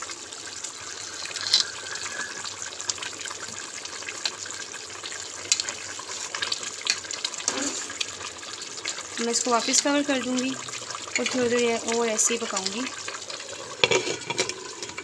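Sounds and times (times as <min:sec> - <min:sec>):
broth bubbling and popping: 0:00.0 - 0:15.0.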